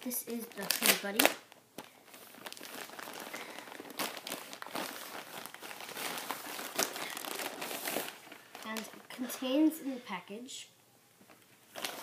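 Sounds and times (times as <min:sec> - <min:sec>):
packaging crinkling: 0:00.1 - 0:09.2, 0:11.3 - 0:12.0.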